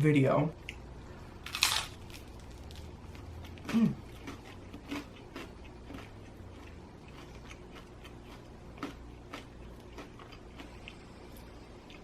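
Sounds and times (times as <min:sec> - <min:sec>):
low room hum: 0:00.0 - 0:12.0
chewing crispy pizza: 0:01.4 - 0:12.0.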